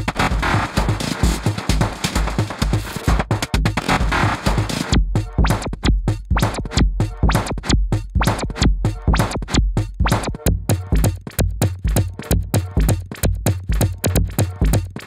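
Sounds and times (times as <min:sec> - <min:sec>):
deep bass: 0:00.0 - 0:15.0
electronic music with chopped beat: 0:00.0 - 0:15.0.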